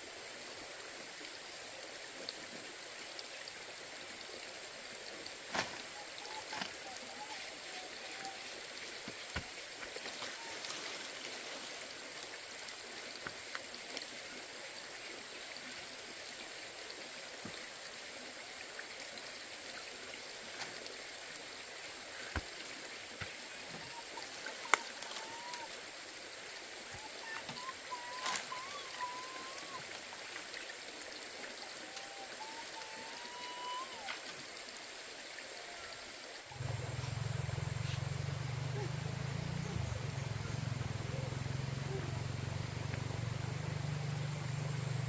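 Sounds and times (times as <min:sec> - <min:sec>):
running water rushing: 0:00.0 - 0:45.0.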